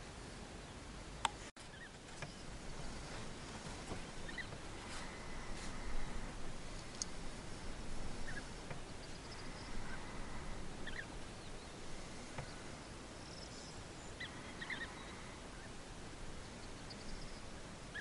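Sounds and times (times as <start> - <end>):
outdoor ambience hiss: 0.0 - 18.0
distant bird chirps: 1.6 - 3.1, 3.8 - 18.0
bee-eaters rolling calls: 1.6 - 18.0.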